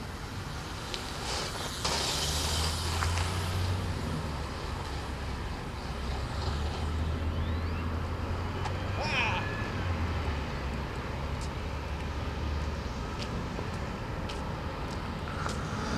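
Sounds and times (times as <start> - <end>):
engine rumble: 0.0 - 15.9
road hiss: 0.0 - 15.9.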